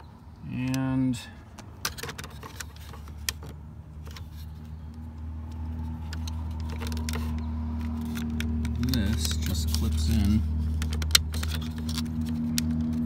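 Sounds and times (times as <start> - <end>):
vehicle engine hum: 0.0 - 13.0
plastic clicks and rattles: 1.5 - 13.0.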